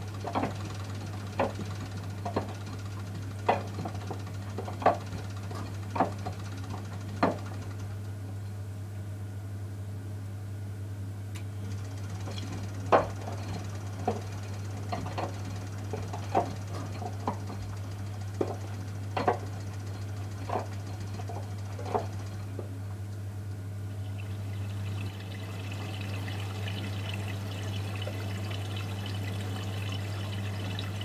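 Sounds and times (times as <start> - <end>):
washing machine drum hum: 0.0 - 8.2, 11.6 - 31.0.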